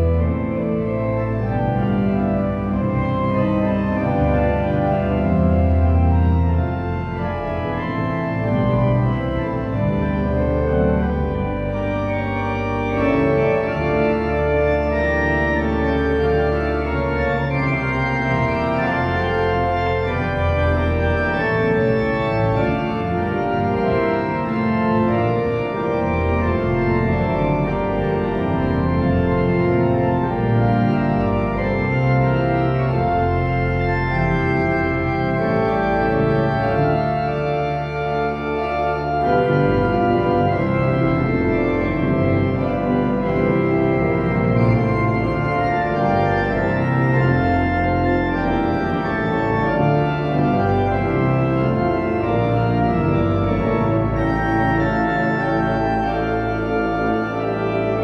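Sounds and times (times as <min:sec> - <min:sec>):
pipe organ chords: 0:00.0 - 0:58.0.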